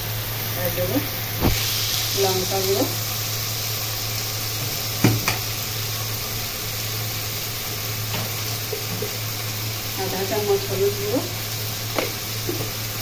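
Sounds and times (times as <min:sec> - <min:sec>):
onions frying in hot oil: 0:00.0 - 0:13.0.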